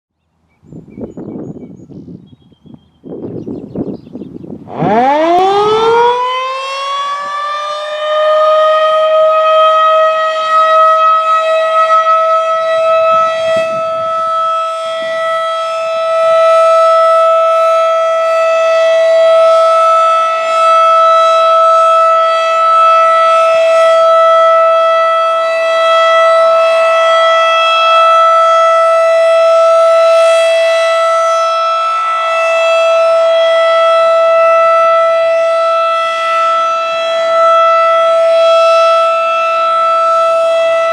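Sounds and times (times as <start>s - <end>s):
outdoor warning siren wailing: 3.0s - 40.9s.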